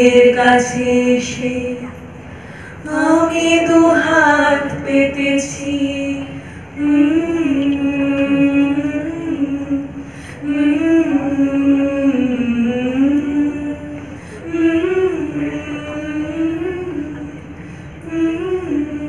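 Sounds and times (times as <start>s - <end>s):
women singing together: 0.0s - 2.0s, 2.8s - 17.4s.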